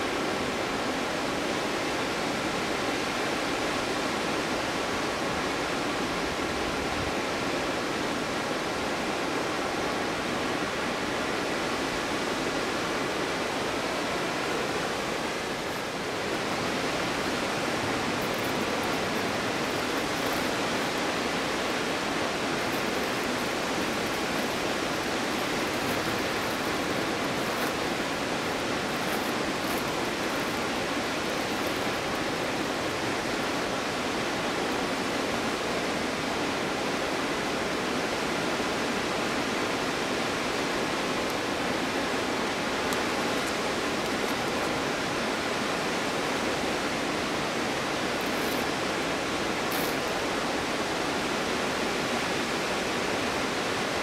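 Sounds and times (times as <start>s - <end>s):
waterfall rushing: 7.2s - 54.0s.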